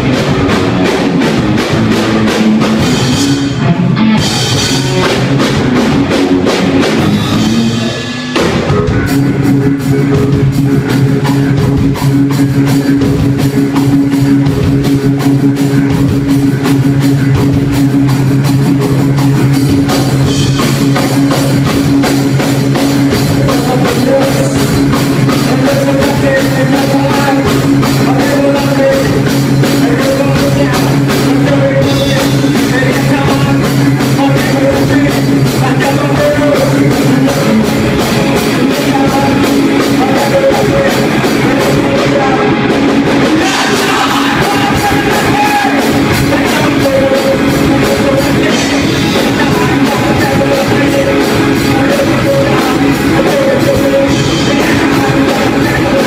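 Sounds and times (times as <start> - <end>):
person singing: 0.0 - 17.8, 18.6 - 56.0
bass guitar: 0.0 - 56.0
drum kit: 0.0 - 56.0
electric guitar: 0.0 - 56.0.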